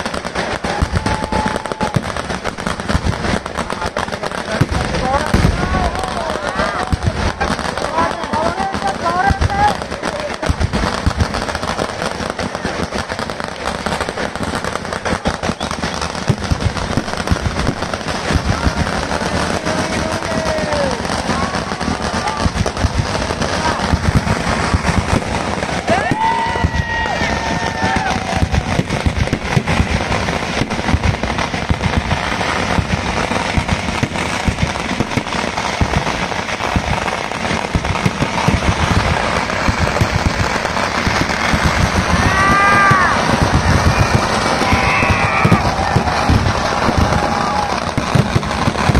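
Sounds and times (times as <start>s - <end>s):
firecracker bangs and crackling: 0.0s - 48.9s
firework shells bursting: 0.0s - 48.9s.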